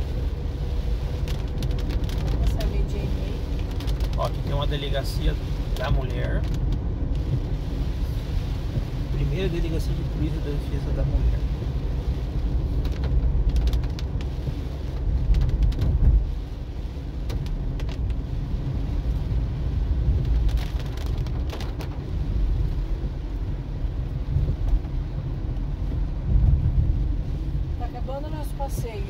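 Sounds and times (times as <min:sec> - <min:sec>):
engine and tyres rumbling: 0:00.0 - 0:29.0.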